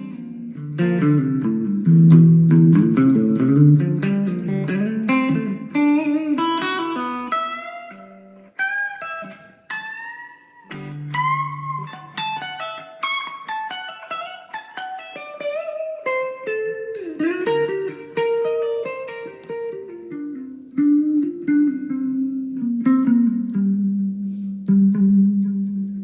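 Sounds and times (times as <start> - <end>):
guitar plucking melodic notes: 0.0 - 26.0.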